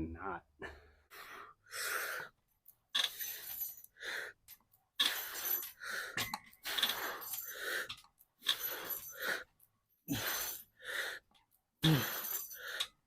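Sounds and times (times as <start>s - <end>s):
person breathing hard: 0.6s - 2.4s, 3.4s - 4.4s, 5.0s - 13.0s.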